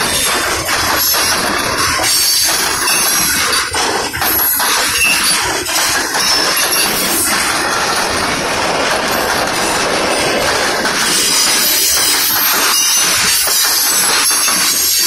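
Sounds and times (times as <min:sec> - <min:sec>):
freight train wheels rumbling: 0:00.0 - 0:15.0
wheels clicking over rail joints: 0:00.0 - 0:15.0.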